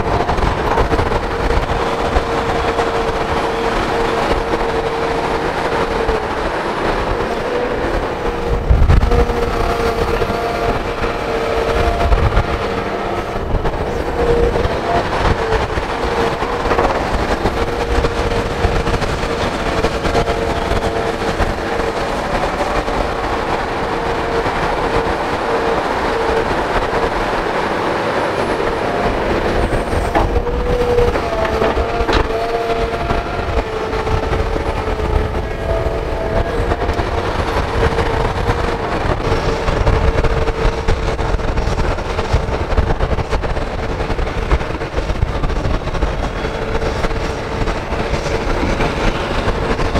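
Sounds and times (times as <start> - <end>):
excavator diesel engine rumble: 0.0 - 49.9.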